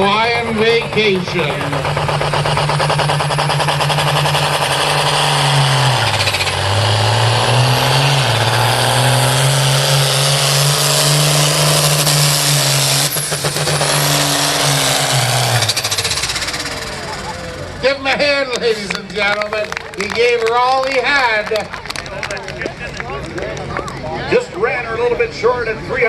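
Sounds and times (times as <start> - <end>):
tractor diesel engine running flat out: 0.0 - 24.1.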